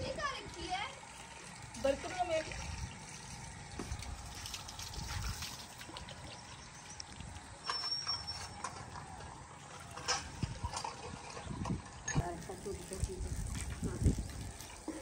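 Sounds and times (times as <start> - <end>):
water trickling and pouring: 0.0 - 15.0.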